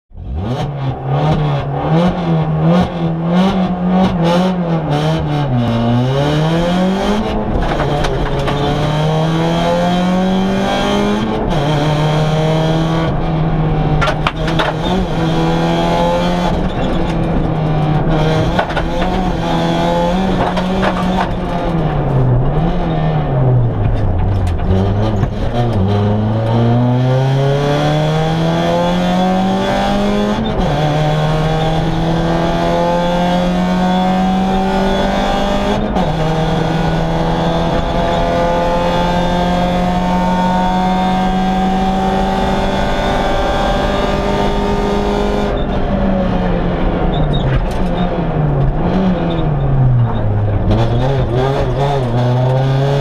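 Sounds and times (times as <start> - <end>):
rally car engine revving: 0.1 - 53.0.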